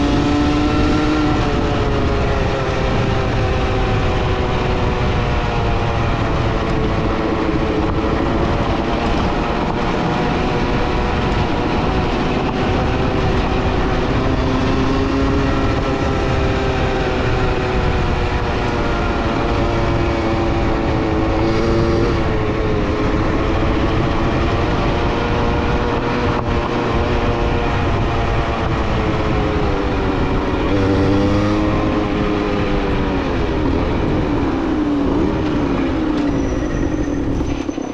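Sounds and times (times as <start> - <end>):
low rumbling drive noise: 0.0 - 37.9
vehicle engine running: 0.0 - 37.9.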